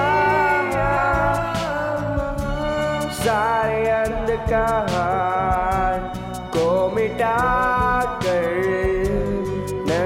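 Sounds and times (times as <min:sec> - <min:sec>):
backing track with a beat: 0:00.0 - 0:10.0
man singing worship song: 0:00.0 - 0:10.0.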